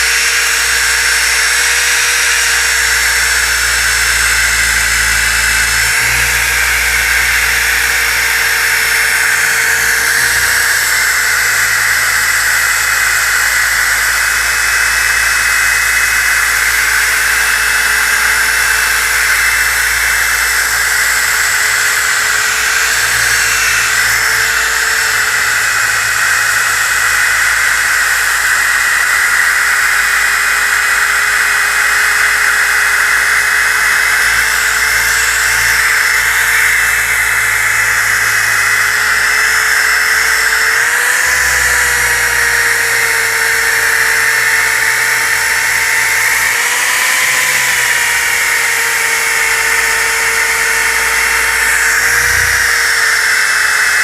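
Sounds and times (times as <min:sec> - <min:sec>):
disc sander motor whine: 0:00.0 - 0:54.0.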